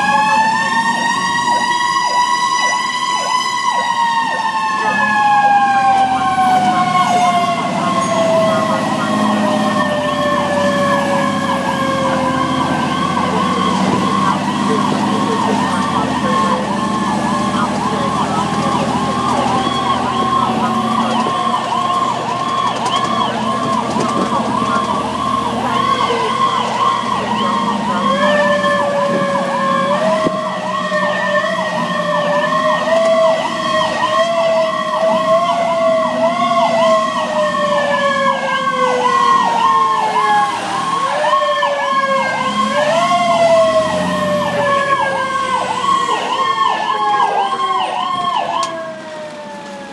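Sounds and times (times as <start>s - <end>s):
fast yelping siren: 0.0s - 49.9s
truck running noise: 0.0s - 49.9s.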